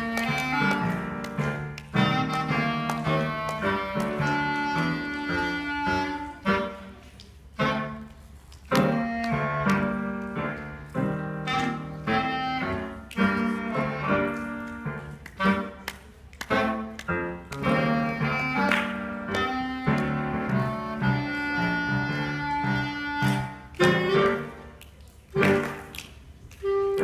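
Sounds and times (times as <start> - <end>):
clarinet melody: 0.0 - 27.0
piano accompaniment: 0.0 - 27.0.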